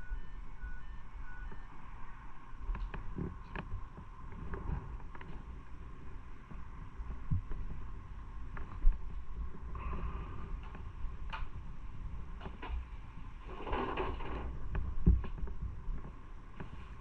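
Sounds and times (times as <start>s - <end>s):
wind on microphone: 2.6s - 17.0s.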